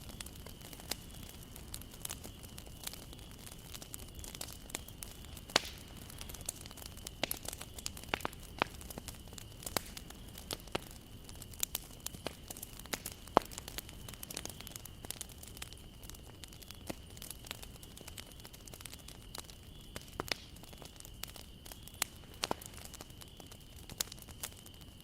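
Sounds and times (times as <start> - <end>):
low hiss of flames: 0.0 - 25.0
wood fire crackling and popping: 0.0 - 25.0.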